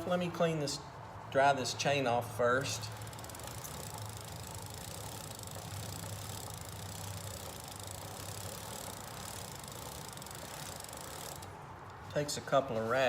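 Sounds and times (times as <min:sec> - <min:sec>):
bicycle chain rattling: 0:01.6 - 0:13.0.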